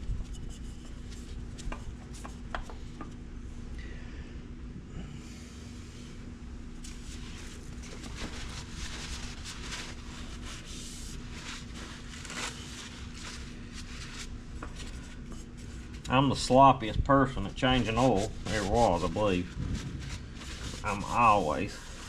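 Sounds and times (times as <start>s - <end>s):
rubbing and scraping handling noise: 0.0s - 3.3s, 6.8s - 16.6s, 17.3s - 22.0s
steady low hum: 0.0s - 22.0s.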